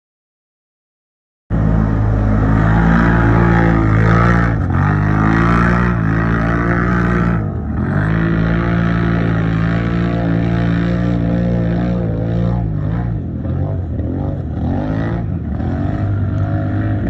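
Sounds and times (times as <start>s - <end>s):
off-road vehicle engine revving: 1.5s - 17.0s.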